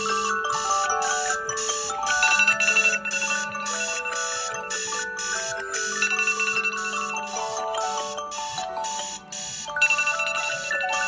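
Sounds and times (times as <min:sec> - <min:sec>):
phone ringtone melodies: 0:00.0 - 0:11.0
pulsing alarm tone: 0:00.0 - 0:11.0
smartphone alarm tones overlapping: 0:00.0 - 0:11.0.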